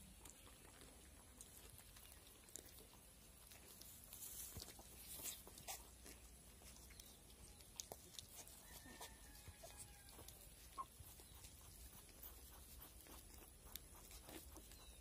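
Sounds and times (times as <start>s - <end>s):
straw crackling: 0.2s - 15.0s.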